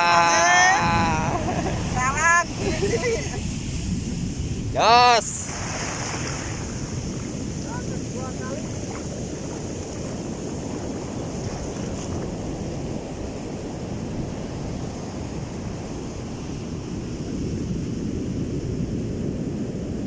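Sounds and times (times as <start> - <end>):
surf breaking on sandy beach: 0.0 - 20.0
wind on microphone: 0.0 - 20.0.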